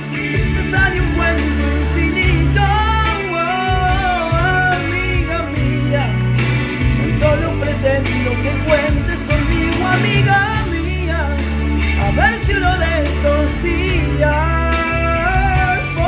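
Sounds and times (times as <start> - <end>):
man singing pop ballad: 0.0 - 16.0
recorded accompaniment with bass: 0.0 - 16.0.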